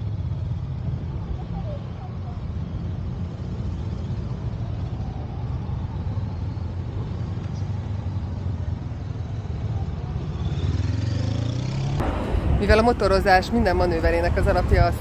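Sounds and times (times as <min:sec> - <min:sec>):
motorcycle engines low rumble: 0:00.0 - 0:15.0.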